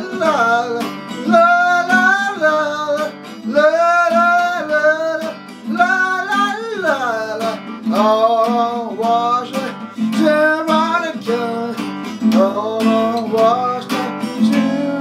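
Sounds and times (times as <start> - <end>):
man singing long sliding notes: 0.0 - 15.0
strummed acoustic guitar: 0.0 - 15.0.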